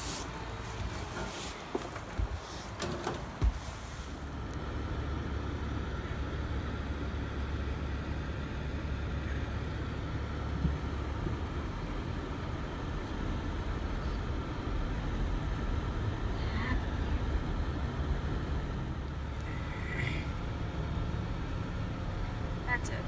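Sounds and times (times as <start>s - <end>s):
car interior rumble: 0.0s - 23.0s.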